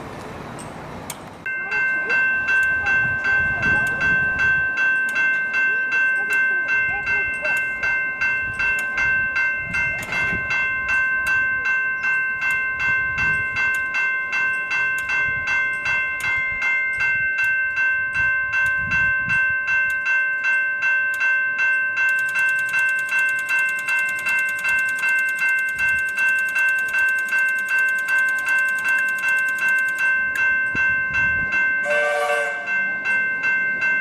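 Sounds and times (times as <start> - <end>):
level crossing warning bell: 1.4 - 34.0.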